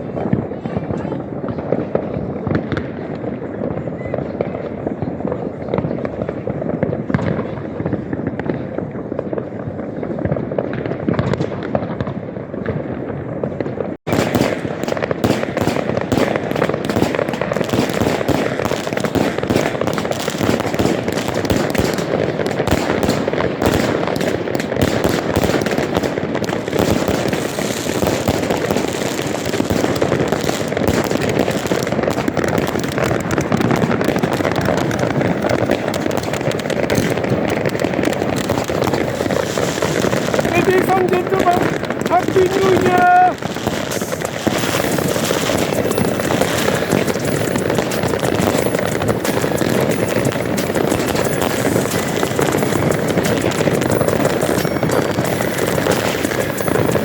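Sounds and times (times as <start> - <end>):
fireworks and firecrackers banging: 0.0 - 57.0.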